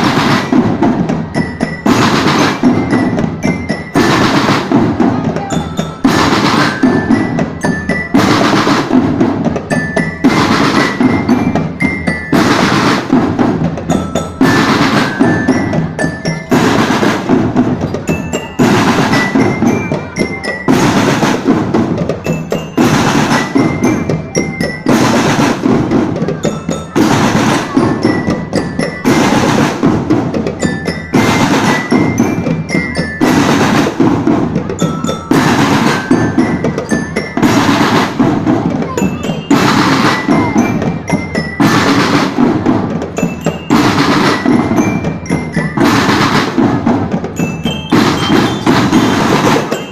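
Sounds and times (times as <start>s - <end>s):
glockenspiel high notes: 0.0s - 49.9s
snare and bass drums: 0.0s - 49.9s.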